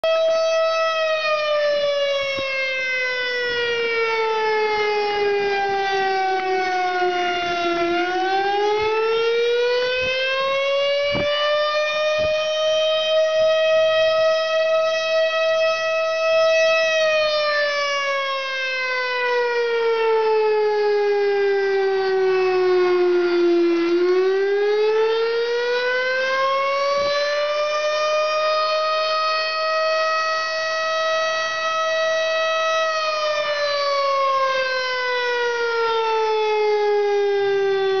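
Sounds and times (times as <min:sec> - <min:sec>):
siren wailing: 0:00.0 - 0:38.0.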